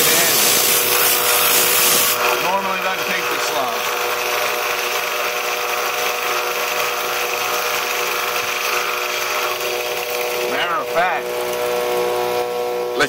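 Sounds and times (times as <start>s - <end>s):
belt grinder grinding steel: 0.0s - 13.0s.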